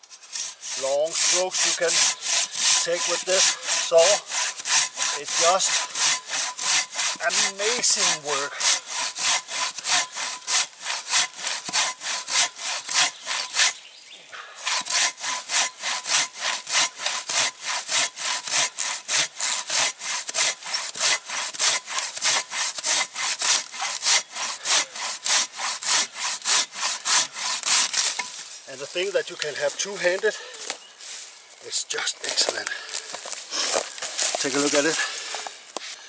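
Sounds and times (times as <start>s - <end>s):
hand saw cutting wood: 0.0s - 13.8s, 14.4s - 30.8s, 32.2s - 36.0s.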